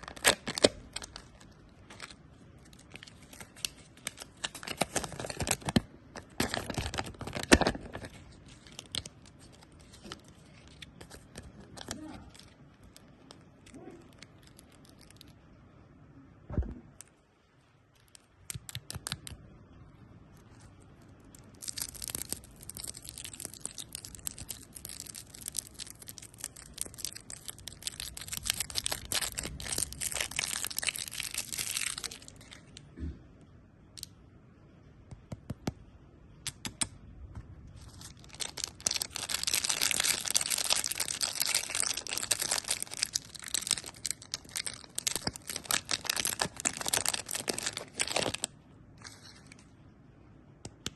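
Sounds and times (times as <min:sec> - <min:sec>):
candy crackling and crunching: 0:00.0 - 0:15.4, 0:17.9 - 0:19.4, 0:20.4 - 0:32.9, 0:37.7 - 0:49.7.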